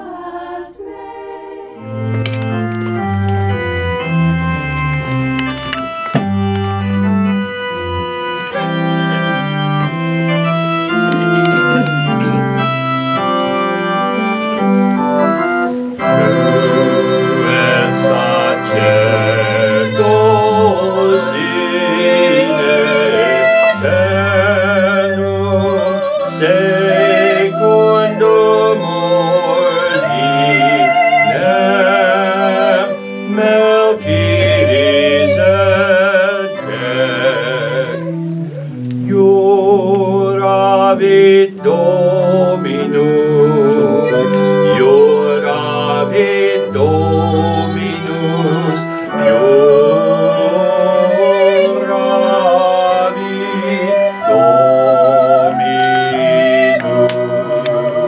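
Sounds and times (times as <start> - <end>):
voices singing with vibrato: 0.0 - 4.6, 15.8 - 58.0
organ playing chords: 1.6 - 58.0.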